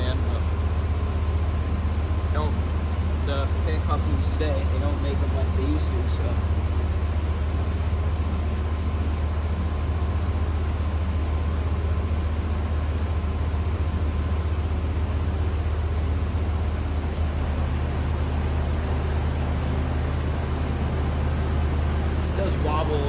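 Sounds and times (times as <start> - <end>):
air rushing from fan blades: 0.0 - 23.0
ceiling fan motor hum: 0.0 - 23.0.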